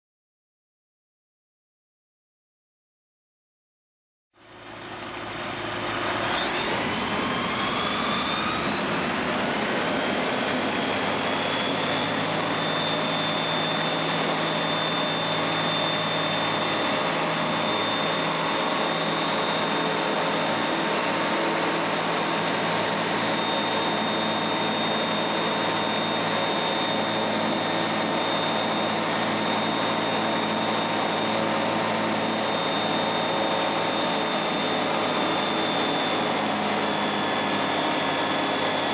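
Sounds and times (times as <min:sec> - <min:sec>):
aircraft engine and propeller: 0:04.4 - 0:38.9.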